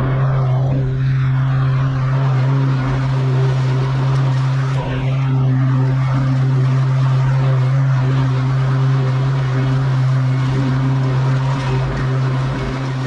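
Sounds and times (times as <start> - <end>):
lawn mower engine droning: 0.0 - 13.0.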